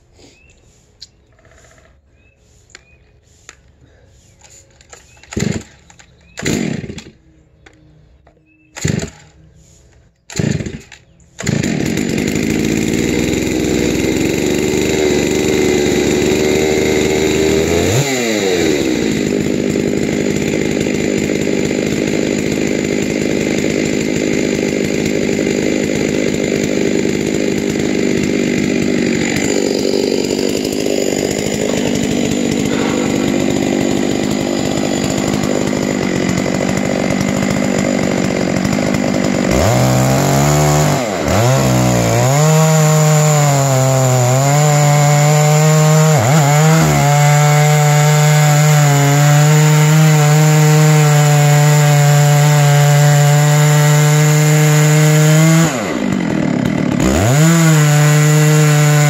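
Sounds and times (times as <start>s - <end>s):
chainsaw cutting log: 0.7s - 7.3s, 8.6s - 59.0s.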